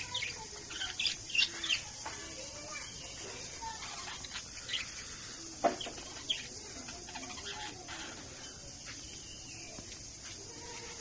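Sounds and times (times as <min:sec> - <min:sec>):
budgerigars chirping and chattering: 0:00.0 - 0:11.0
steady hiss: 0:00.0 - 0:11.0.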